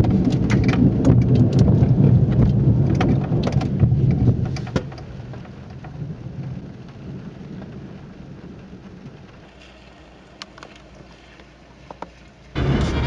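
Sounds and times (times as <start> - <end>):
thunder rumbling: 0.0 - 10.8, 12.6 - 13.0
raindrop ticks: 0.0 - 12.6
steady rain: 0.0 - 13.0.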